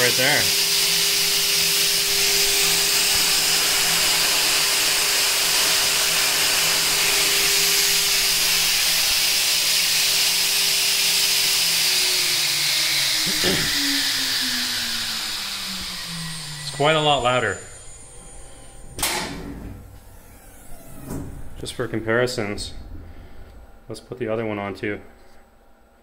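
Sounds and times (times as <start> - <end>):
router spindle whine: 0.0 - 23.3.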